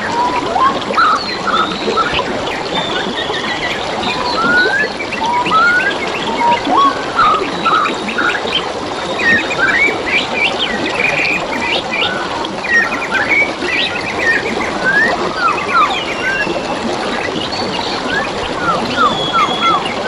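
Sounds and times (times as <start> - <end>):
flowing water babbling: 0.0 - 20.0
forest birds chirping: 0.0 - 20.0.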